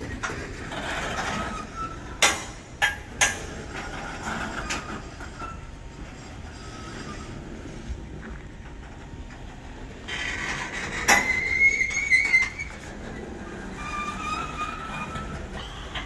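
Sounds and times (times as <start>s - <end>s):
high wheel squeal: 0.0s - 8.2s, 10.0s - 16.0s
train wheels rumbling on rail: 0.0s - 16.0s.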